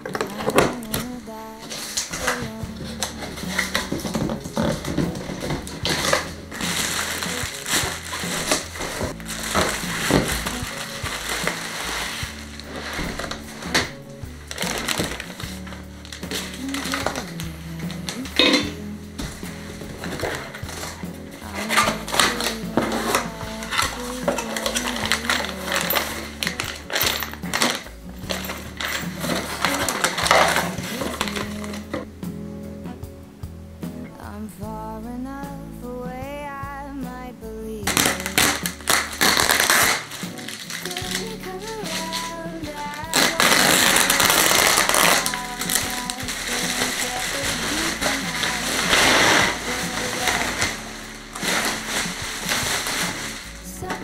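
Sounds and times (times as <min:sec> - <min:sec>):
cardboard box opened: 0:00.0 - 0:18.2, 0:19.2 - 0:32.0, 0:37.9 - 0:42.4, 0:43.1 - 0:54.0
bubble wrap crinkling: 0:00.0 - 0:32.1, 0:37.8 - 0:54.0
plastic bag rustling: 0:00.0 - 0:32.1, 0:37.9 - 0:54.0
background music: 0:00.0 - 0:54.0.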